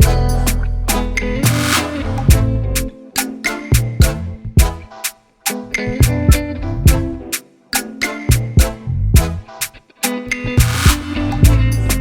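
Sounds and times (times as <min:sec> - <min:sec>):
upbeat reggae music with guitar: 0:00.0 - 0:12.0.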